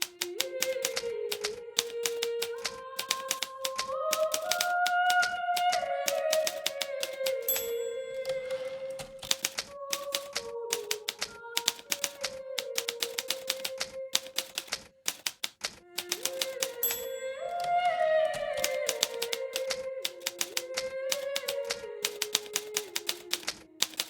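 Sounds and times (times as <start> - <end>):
typewriter key strikes: 0.0 - 17.8, 18.4 - 24.0.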